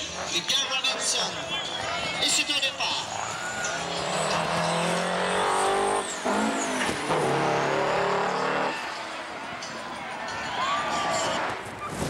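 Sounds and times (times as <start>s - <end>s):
diesel truck engines accelerating: 0.0s - 11.8s.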